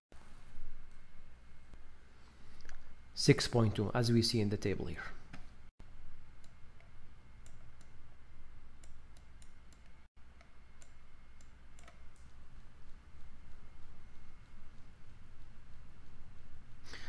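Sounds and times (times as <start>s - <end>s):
low steady hum: 0.2s - 17.0s.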